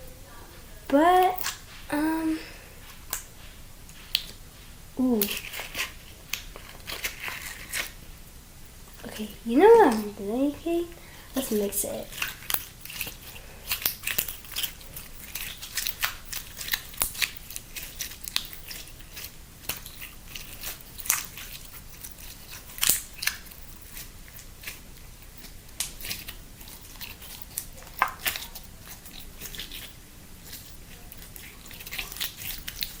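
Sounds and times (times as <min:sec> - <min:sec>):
slime kneaded by hand crackling: 0:00.8 - 0:33.0.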